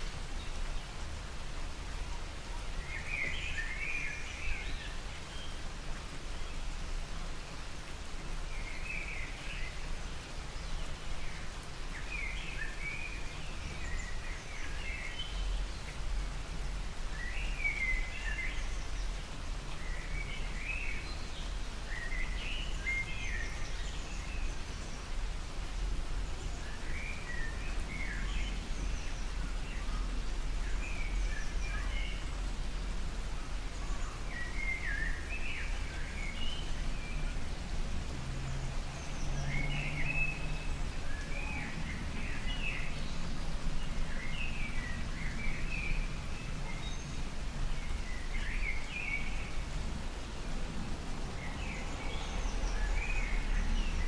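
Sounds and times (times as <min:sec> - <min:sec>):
light rain falling: 0:00.0 - 0:54.0
bird chirping: 0:01.9 - 0:05.7, 0:08.5 - 0:49.8.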